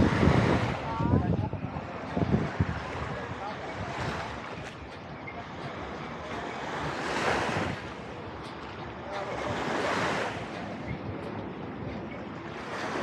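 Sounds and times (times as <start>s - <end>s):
waves breaking on a beach: 0.0s - 13.0s
wind rumbling on microphone: 0.0s - 13.0s.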